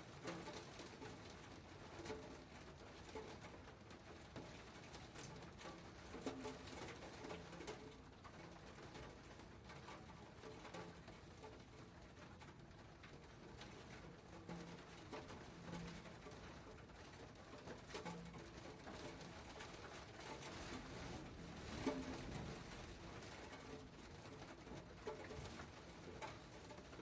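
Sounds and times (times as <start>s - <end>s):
faint rain pattering: 0.0s - 27.0s.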